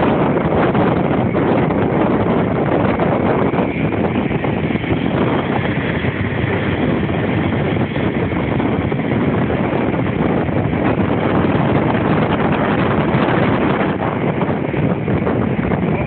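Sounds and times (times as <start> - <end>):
wind on microphone: 0.0 - 16.0
motor scooter running: 2.2 - 16.0.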